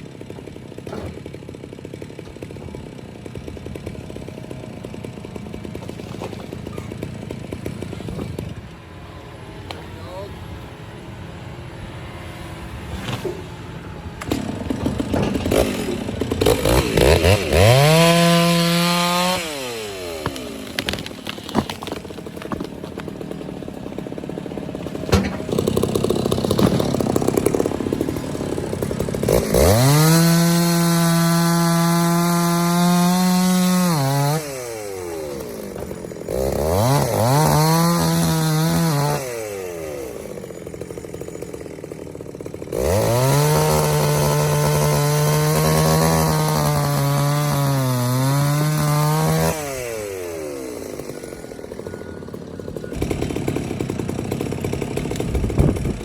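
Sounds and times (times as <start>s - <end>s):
chainsaw engine idling roughly: 0.0s - 8.6s, 14.1s - 56.0s
chainsaw cutting through tree: 0.0s - 56.0s.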